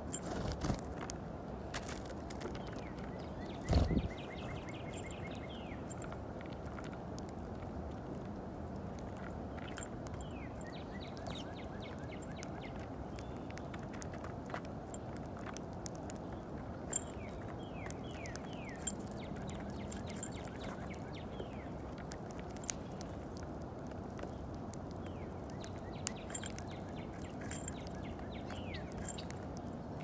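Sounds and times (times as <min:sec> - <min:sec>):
birds pecking clicks: 0:00.0 - 0:30.0
low background noise: 0:00.0 - 0:30.0
sparrows chirping: 0:02.4 - 0:06.7, 0:08.8 - 0:14.2, 0:14.8 - 0:30.0.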